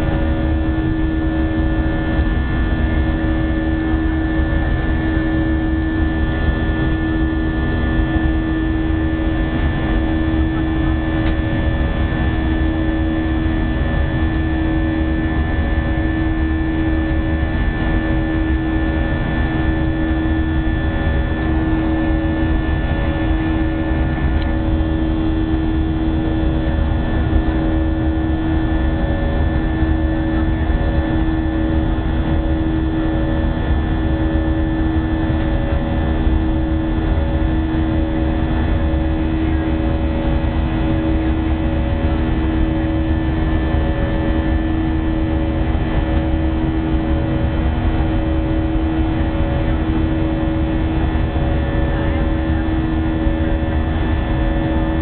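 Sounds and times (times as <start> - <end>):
jet engine drone: 0.0 - 55.0
steady hum: 0.0 - 55.0.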